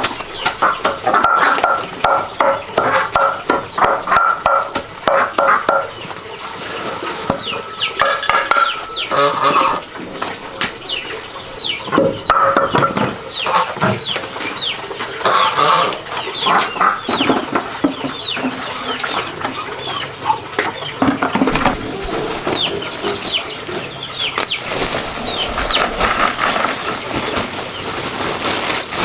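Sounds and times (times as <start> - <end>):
chickens clucking: 0.0 - 28.1.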